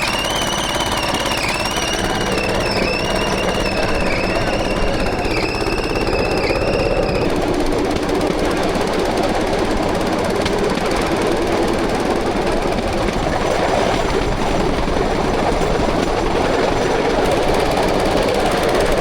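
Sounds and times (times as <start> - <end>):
bamboo platform rattling on track: 0.0 - 19.0
small engine running: 0.0 - 19.0.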